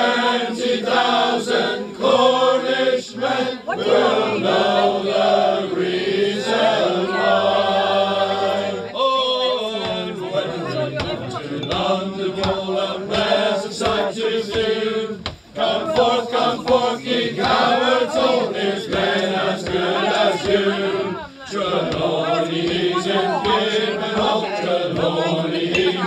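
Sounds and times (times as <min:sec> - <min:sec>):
male choir singing unaccompanied: 0:00.0 - 0:26.0.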